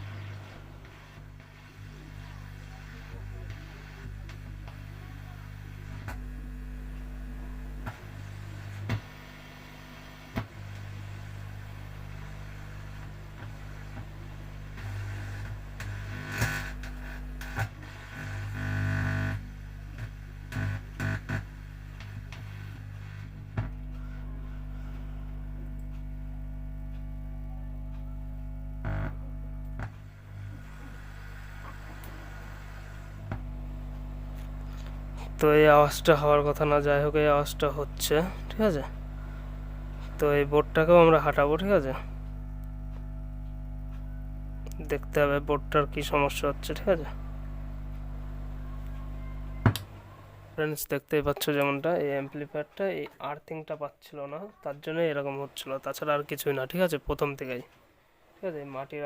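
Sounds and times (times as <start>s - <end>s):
amplifier mains hum: 0.0s - 59.0s.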